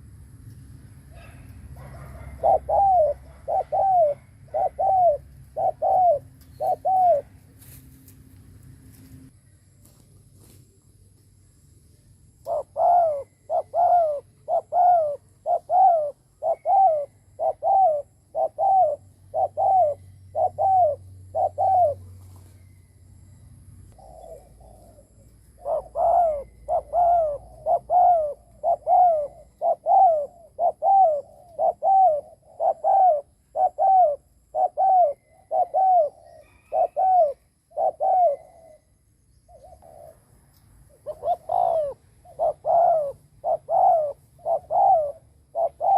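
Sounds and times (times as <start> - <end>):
dove cooing: 1.1 - 7.6, 12.4 - 22.6, 23.8 - 40.3, 40.9 - 45.9.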